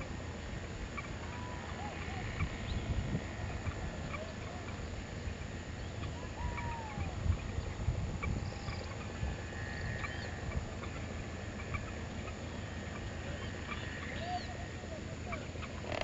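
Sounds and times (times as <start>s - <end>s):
steady low rumble: 0.0s - 15.9s
birds chirping: 0.9s - 16.0s.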